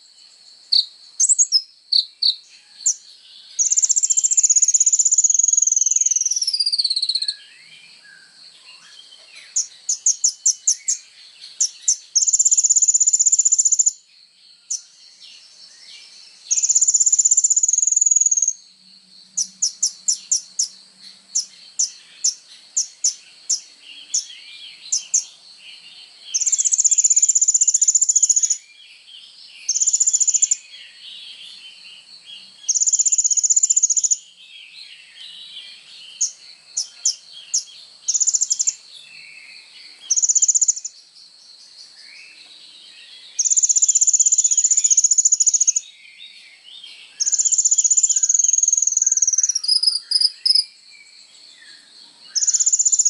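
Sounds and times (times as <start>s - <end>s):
bird singing trills and chips: 0.0s - 53.0s
faint high insect drone: 0.0s - 53.0s.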